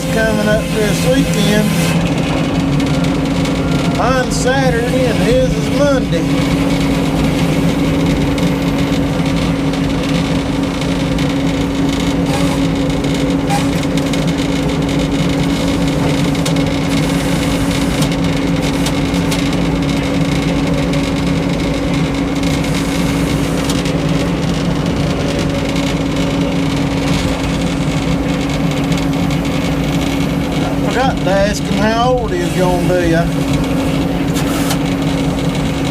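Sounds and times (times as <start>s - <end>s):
sawmill humming: 0.0s - 35.9s.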